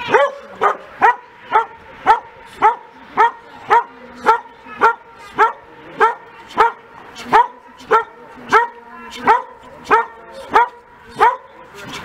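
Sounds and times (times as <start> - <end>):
dog barking rhythmically: 0.1 - 11.6.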